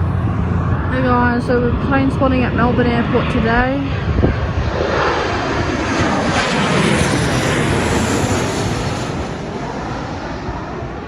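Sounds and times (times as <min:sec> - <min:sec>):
airliner engines flying past: 0:00.0 - 0:11.0.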